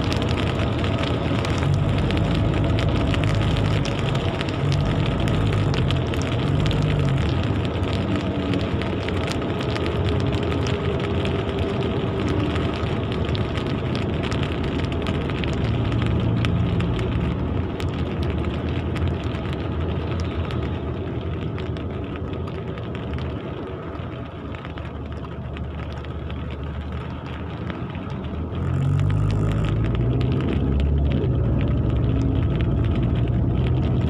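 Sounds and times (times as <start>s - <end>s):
road traffic rumble and hiss: 0.0s - 34.0s.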